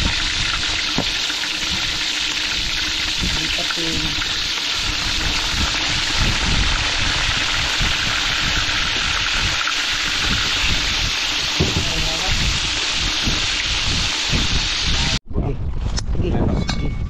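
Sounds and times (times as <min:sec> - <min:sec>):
fish sizzling in hot oil: 0:00.0 - 0:15.2.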